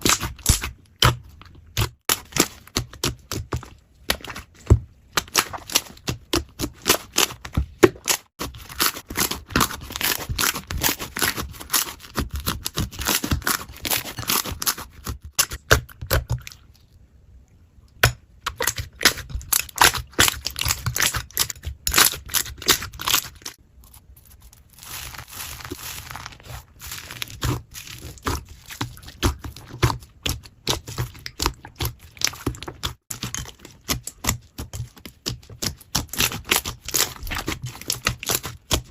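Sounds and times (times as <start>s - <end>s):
slime squelching and popping: 0.0s - 16.7s, 18.0s - 38.9s.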